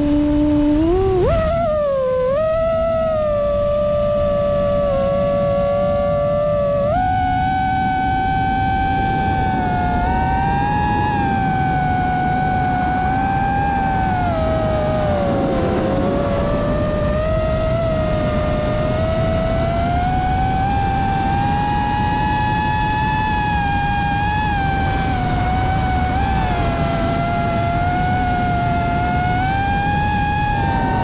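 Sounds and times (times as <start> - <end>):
electric motors and propellers whining: 0.0 - 31.0.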